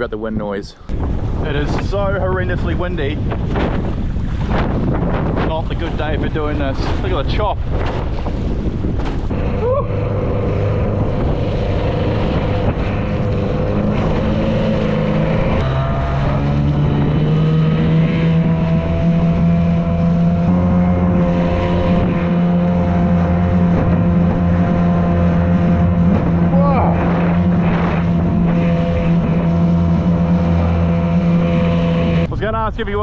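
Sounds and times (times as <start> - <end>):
wind on microphone: 0.0 - 33.0
boat motor running: 0.8 - 32.3.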